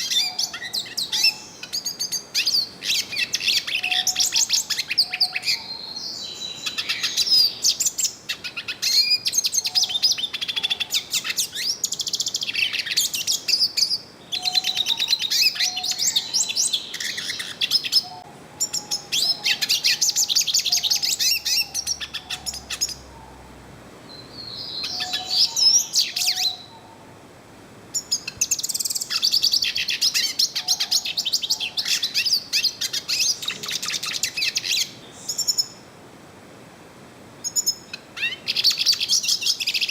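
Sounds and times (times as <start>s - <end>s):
bird twittering and warbling: 0.0s - 23.5s, 24.4s - 27.0s, 28.0s - 35.8s.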